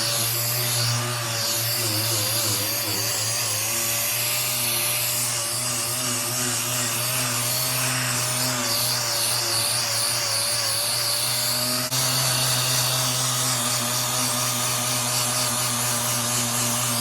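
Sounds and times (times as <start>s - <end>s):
power sander on steel: 0.0s - 17.0s.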